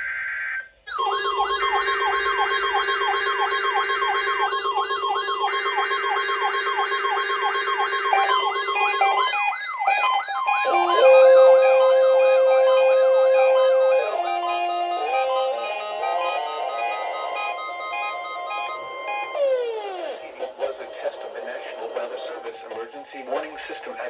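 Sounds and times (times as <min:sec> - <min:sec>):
yelping electronic siren: 0:00.9 - 0:20.3
steady alarm tones: 0:00.9 - 0:21.6.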